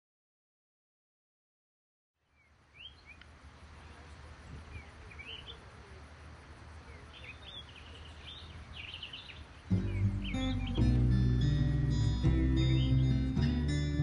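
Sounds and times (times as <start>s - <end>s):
background hiss: 2.2s - 14.0s
small birds chirping: 2.2s - 14.0s.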